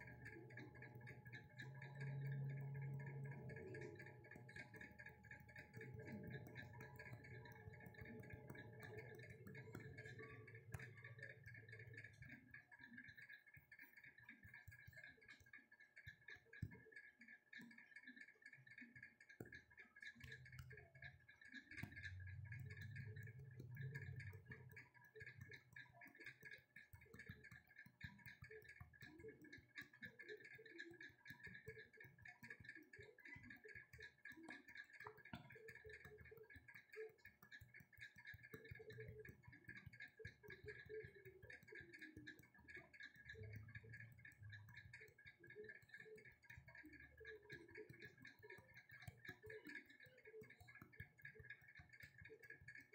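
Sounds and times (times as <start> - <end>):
faint ticks: 0.0 - 52.9.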